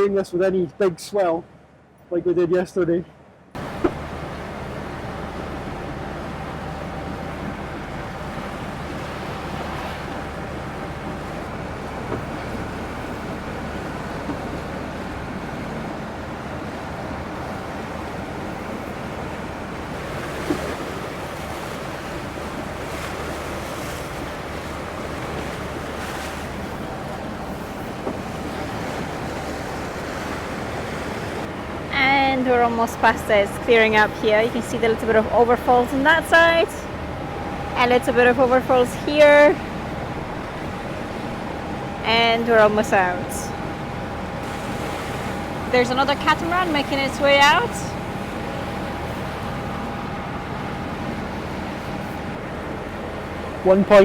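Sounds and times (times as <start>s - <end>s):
boat engine running: 0.0s - 54.0s
water slapping against hull: 3.6s - 53.7s.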